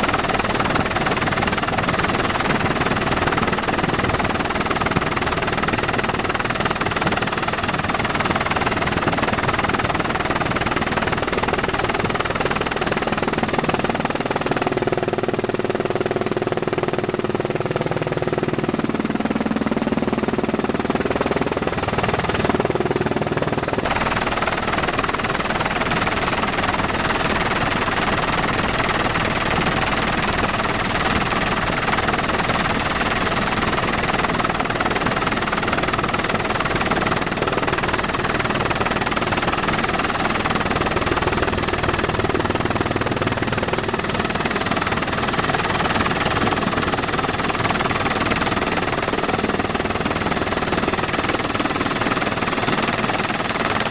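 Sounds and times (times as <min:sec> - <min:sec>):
helicopter rotor and engine noise: 0:00.0 - 0:53.9.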